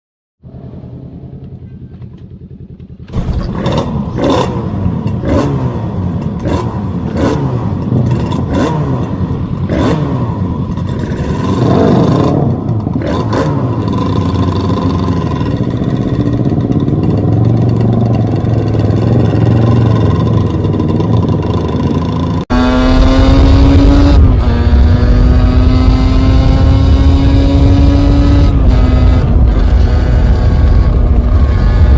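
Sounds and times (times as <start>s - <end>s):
two-stroke motorcycle engine revving: 2.3s - 31.9s.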